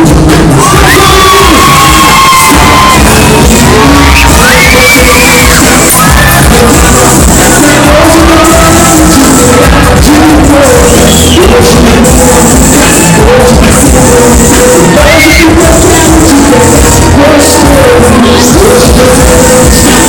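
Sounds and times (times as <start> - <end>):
live band playing dance music: 0.0 - 20.0
person singing: 0.0 - 20.0.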